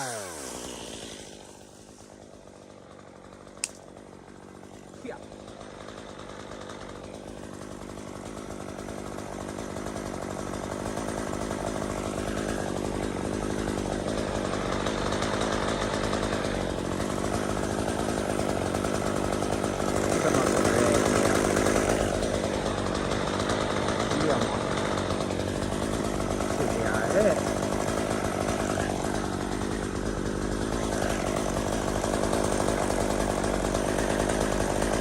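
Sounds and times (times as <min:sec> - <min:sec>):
chainsaw running: 0:00.0 - 0:35.0.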